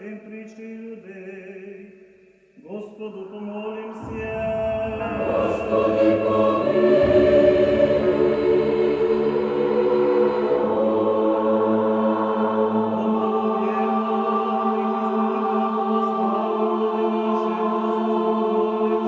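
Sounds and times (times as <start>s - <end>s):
choral chant over drone: 3.6s - 19.0s.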